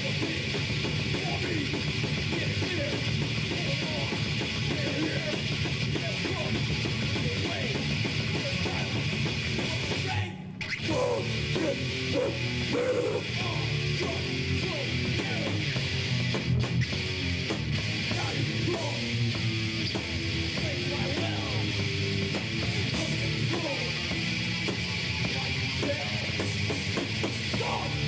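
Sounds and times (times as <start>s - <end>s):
bass: 0.0s - 28.0s
distorted electric guitars: 0.0s - 28.0s
drums: 0.0s - 28.0s.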